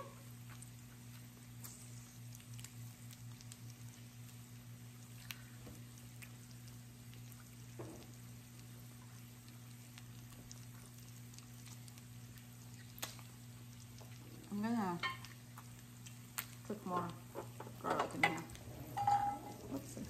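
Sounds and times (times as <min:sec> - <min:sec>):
fat crackling and popping: 0:00.0 - 0:20.0
steady low hum: 0:00.0 - 0:20.0.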